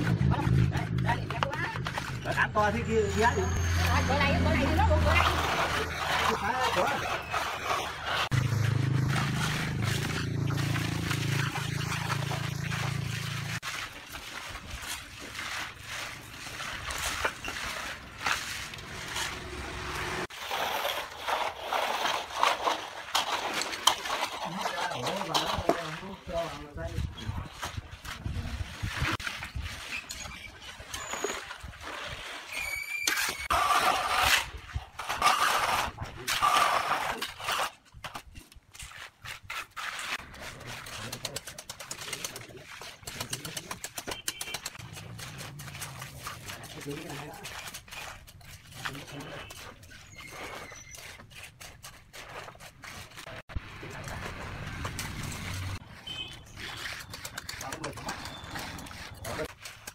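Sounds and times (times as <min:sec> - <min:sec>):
trowels scraping wet concrete: 0:00.0 - 0:59.9
wet concrete slopping: 0:00.0 - 0:59.9.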